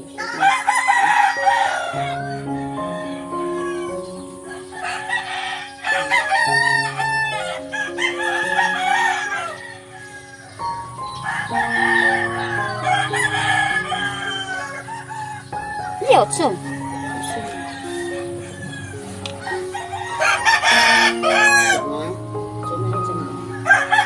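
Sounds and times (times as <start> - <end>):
roosters crowing: 0.0 - 22.2, 23.3 - 24.0
background music simple melody: 0.0 - 24.0.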